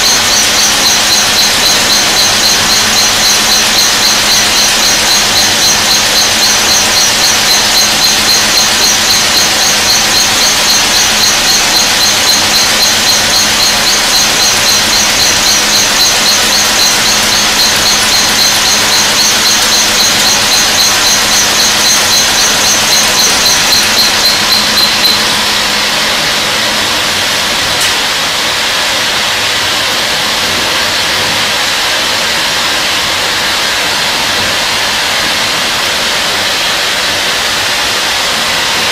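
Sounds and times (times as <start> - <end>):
machine running hiss: 0.0 - 38.9
pulsing high-pitched machine squeal: 0.0 - 38.9.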